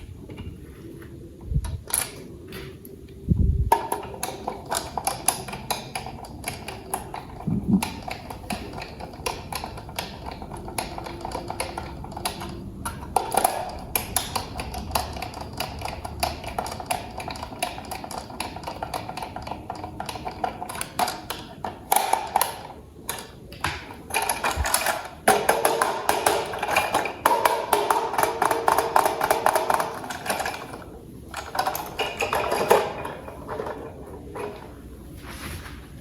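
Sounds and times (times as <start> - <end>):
plastic parts clicking and rattling: 3.7 - 34.7.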